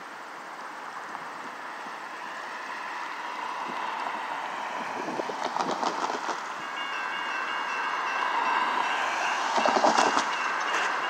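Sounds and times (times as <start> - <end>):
tyres hissing on road: 0.0 - 11.0.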